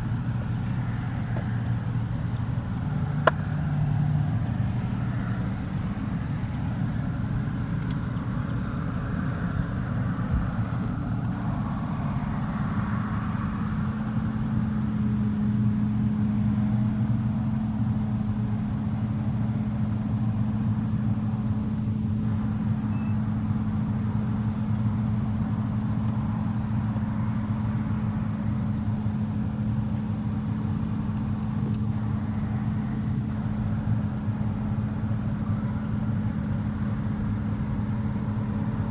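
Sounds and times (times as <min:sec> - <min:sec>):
combine harvester engine hum: 0:00.0 - 0:38.9.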